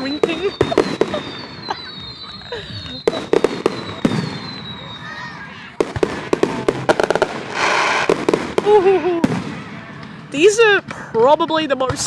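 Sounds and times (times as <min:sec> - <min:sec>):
crackling firework bursts: 0:00.0 - 0:12.0
crowd voices: 0:00.0 - 0:12.0
firework bangs: 0:00.0 - 0:12.0.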